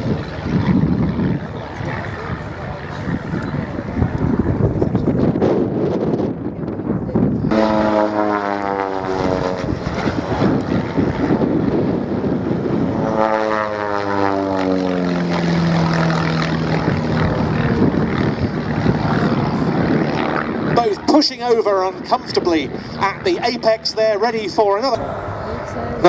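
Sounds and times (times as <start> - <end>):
biplane piston engine and propeller: 0.0 - 26.0.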